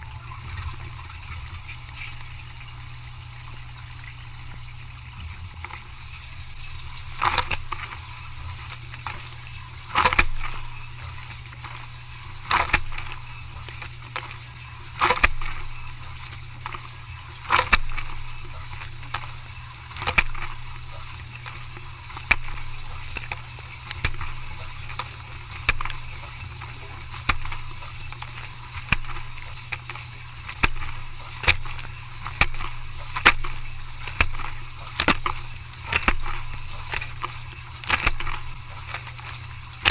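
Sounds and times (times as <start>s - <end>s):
dishwasher pump hum: 0.0s - 39.9s.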